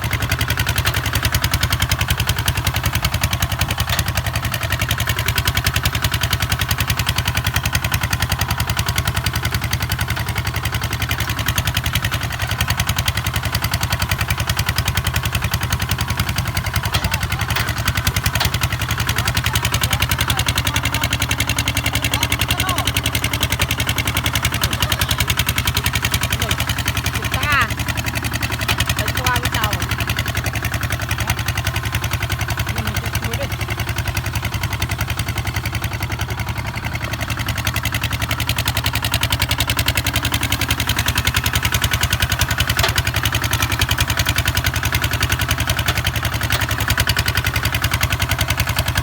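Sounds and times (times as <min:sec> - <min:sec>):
diesel tractor engine running: 0:00.0 - 0:49.0.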